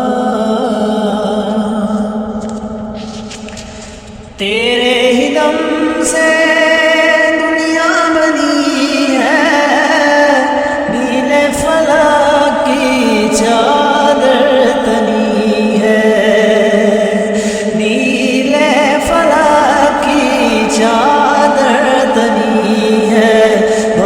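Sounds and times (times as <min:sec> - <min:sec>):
person singing ornamented melody: 0:00.0 - 0:02.4, 0:04.4 - 0:24.0.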